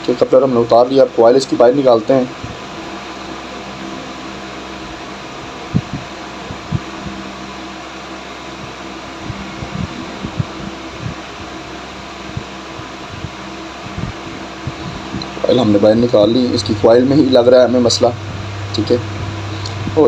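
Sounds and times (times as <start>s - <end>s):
fan hum: 0.0s - 20.0s.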